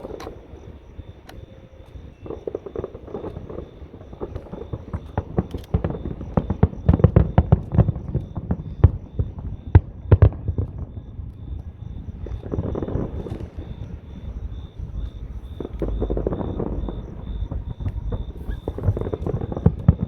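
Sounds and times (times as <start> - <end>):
fireworks bangs and pops: 0.0 - 20.0.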